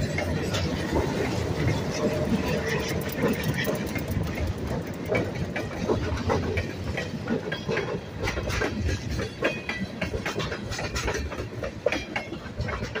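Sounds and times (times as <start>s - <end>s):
freight train rumble: 0.0s - 13.0s
wheels clacking over rail joints: 0.0s - 13.0s.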